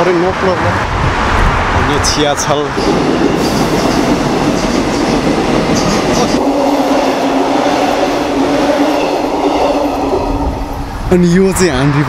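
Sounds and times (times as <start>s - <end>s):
train wheels rumbling on rails: 0.2s - 12.0s.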